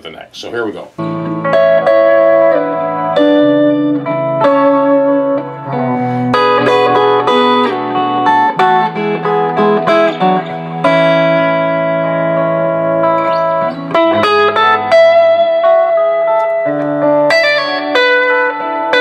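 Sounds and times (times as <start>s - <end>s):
looped electric guitar backing: 0.9s - 19.0s
electric guitar picked notes and chords: 1.0s - 19.0s.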